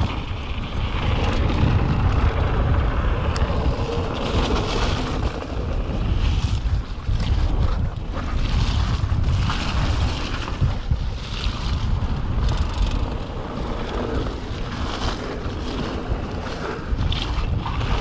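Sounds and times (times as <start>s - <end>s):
bike tyres rumbling on muddy trail: 0.0s - 18.0s
wind rushing over microphone: 0.0s - 18.0s.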